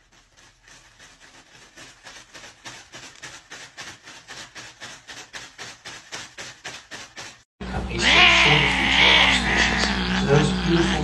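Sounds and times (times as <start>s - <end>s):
cat paw scraping a packet: 0.0s - 9.8s.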